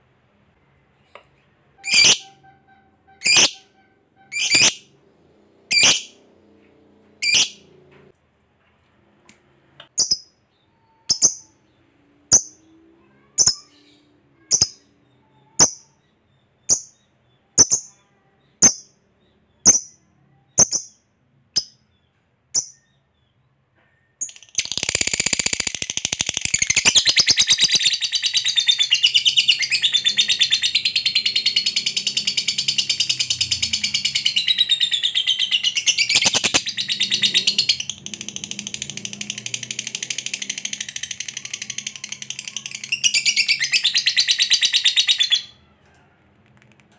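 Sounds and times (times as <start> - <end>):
lovebird chirping and trilling: 1.8 - 5.0, 5.7 - 6.2, 7.2 - 7.7, 10.0 - 23.3, 24.2 - 45.6.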